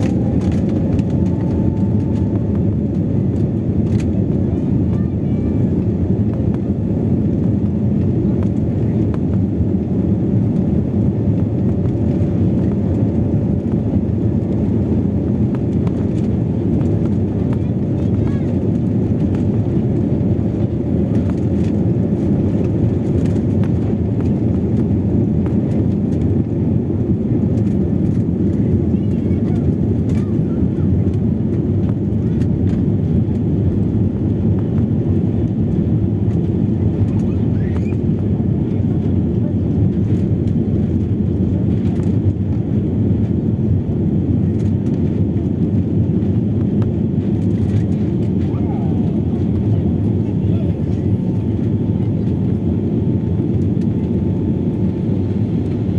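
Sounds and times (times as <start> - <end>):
airliner engines rumbling: 0.0 - 55.9.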